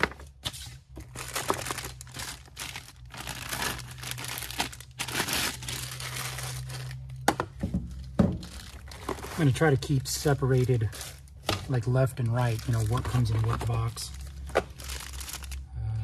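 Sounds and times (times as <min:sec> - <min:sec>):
plastic bag crinkling: 0:01.0 - 0:07.2, 0:07.9 - 0:15.7.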